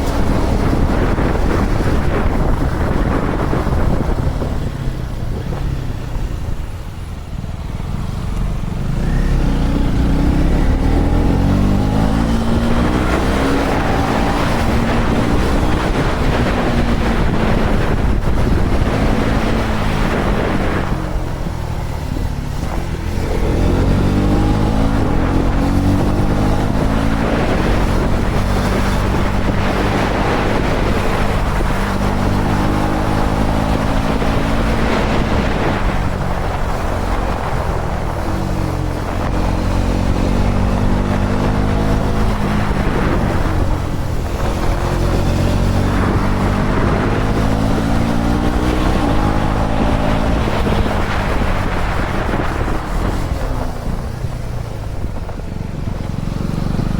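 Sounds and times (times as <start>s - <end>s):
motorcycle engine accelerating: 0.0s - 56.9s
wind noise on microphone: 0.0s - 56.9s.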